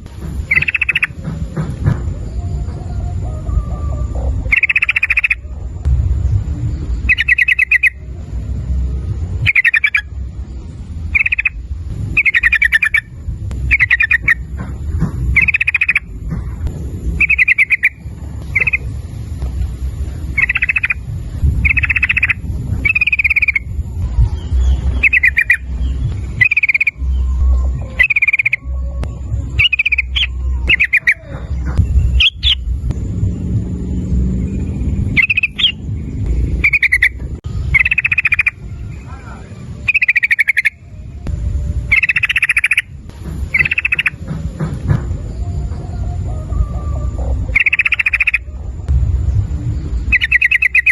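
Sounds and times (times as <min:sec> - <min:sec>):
bulbul singing: 0:00.0 - 0:50.9
steady low rumble: 0:00.0 - 0:50.9.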